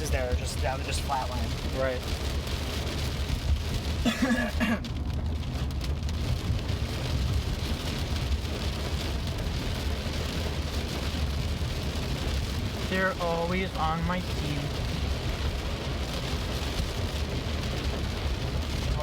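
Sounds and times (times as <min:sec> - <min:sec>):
heavy rain hissing: 0:00.0 - 0:19.0
low rumble: 0:00.0 - 0:19.0.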